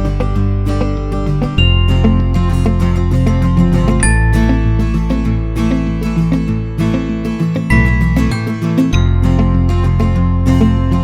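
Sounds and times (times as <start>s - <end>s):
bass line: 0.0s - 11.0s
strummed acoustic guitar: 0.0s - 11.0s.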